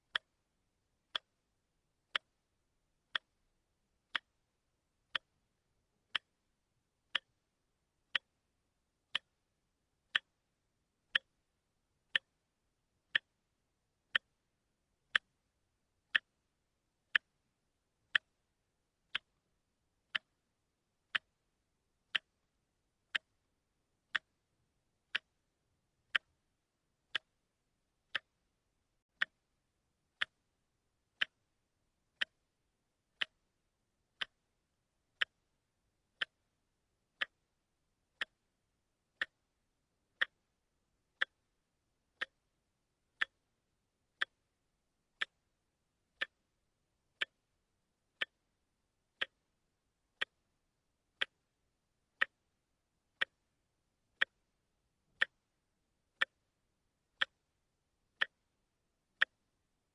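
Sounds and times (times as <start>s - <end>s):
watch ticking: 0.0s - 0.4s, 1.0s - 1.4s, 2.0s - 9.4s, 10.0s - 12.4s, 13.0s - 13.5s, 14.1s - 44.6s, 45.2s - 46.6s, 47.2s - 59.9s.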